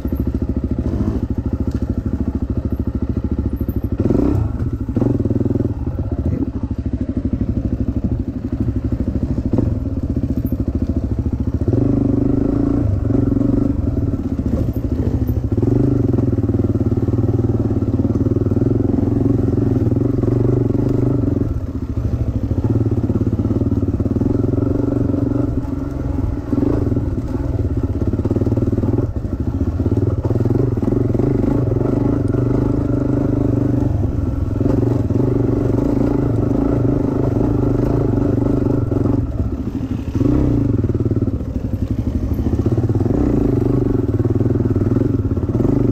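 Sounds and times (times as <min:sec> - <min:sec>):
dirt bike engine revving: 0:00.0 - 0:06.6, 0:08.4 - 0:45.9.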